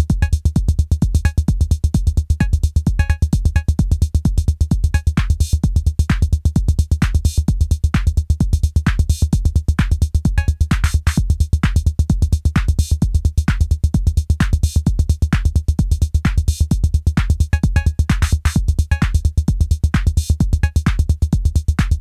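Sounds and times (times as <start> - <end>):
deep bass: 0.0 - 22.0
drum-machine beat: 0.0 - 22.0
electronic music: 0.0 - 22.0.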